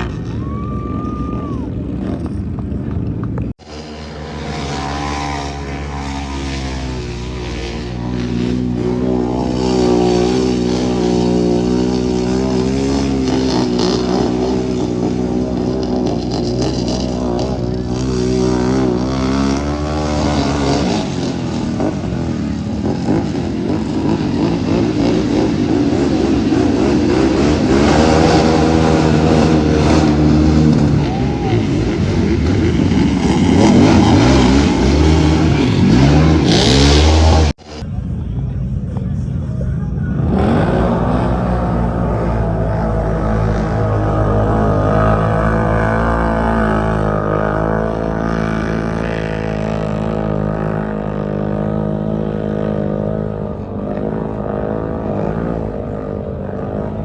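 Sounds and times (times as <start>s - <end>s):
off-road vehicle engine revving: 0.0s - 37.9s, 38.9s - 57.0s.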